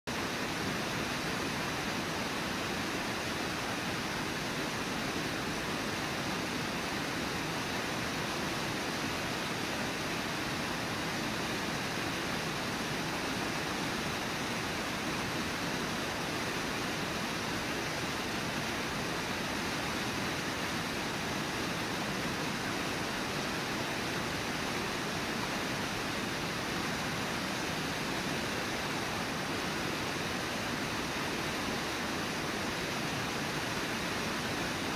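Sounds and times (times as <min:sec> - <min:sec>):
waterfall rushing into river: 0:00.1 - 0:34.9.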